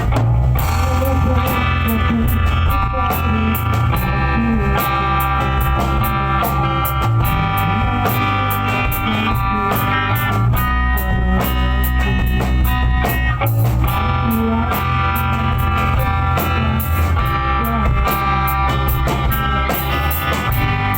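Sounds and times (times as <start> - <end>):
drum kit beat: 0.0 - 20.9
guitar: 0.0 - 20.9
rock music: 0.0 - 20.9.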